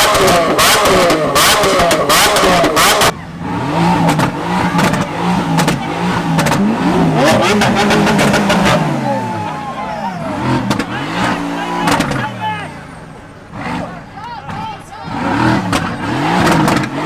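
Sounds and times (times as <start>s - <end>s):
car engine revving with crackles: 0.0s - 17.0s.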